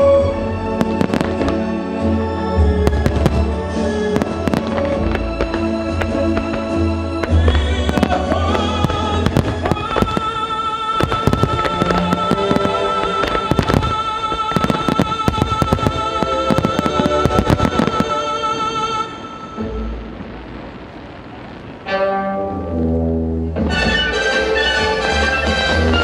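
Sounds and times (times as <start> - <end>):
loud music with held notes: 0.0 - 20.0, 23.5 - 26.0
firework bangs and crackles: 0.0 - 22.8.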